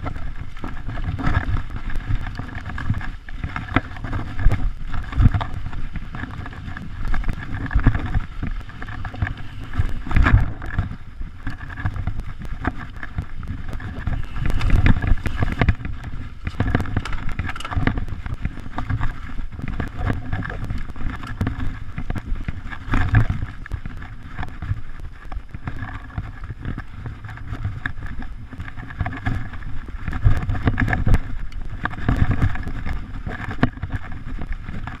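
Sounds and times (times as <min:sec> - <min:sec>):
bike rattling and knocking: 0:00.0 - 0:35.0
tyre noise on dirt: 0:00.0 - 0:35.0
wind rumbling on microphone: 0:00.0 - 0:35.0.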